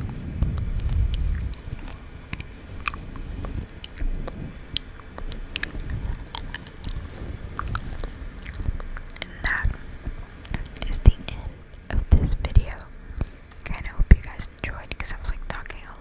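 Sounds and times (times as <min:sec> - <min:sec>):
low rustling rumble: 0:00.0 - 0:16.0
wet mouth clicks and smacks: 0:00.1 - 0:15.7.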